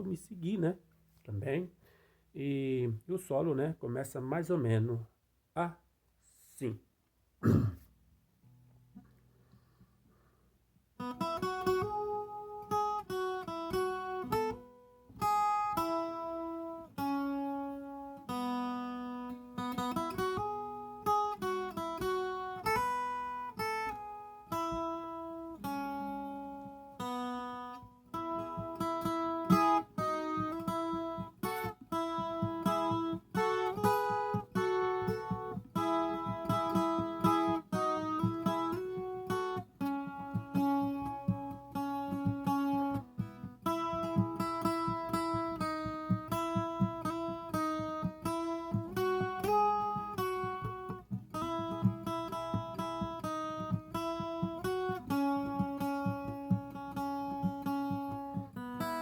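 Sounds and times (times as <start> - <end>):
plucked guitar melody: 11.0 - 59.0.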